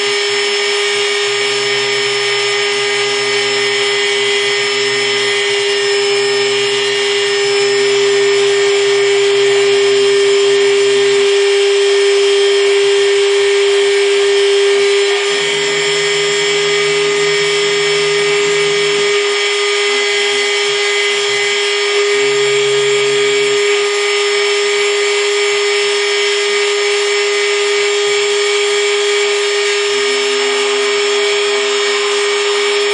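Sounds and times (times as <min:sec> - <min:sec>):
cnc mill spindle whine: 0:00.0 - 0:32.9
low hum: 0:00.2 - 0:32.9.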